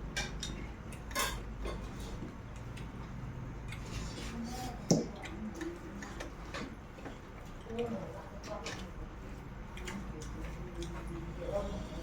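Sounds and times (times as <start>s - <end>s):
chewing: 1.7s - 12.0s.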